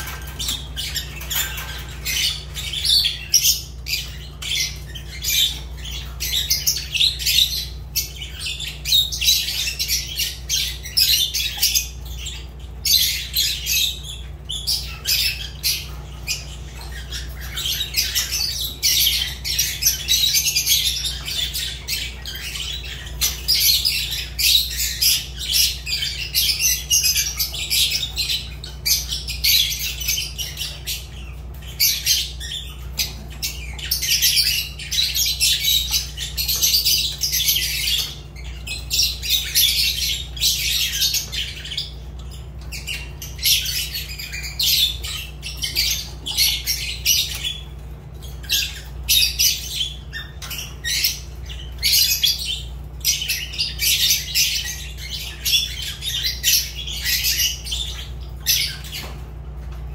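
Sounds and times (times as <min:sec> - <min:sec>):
lovebirds chirping: 0:00.0 - 0:59.9
steady low hum: 0:00.0 - 0:59.9.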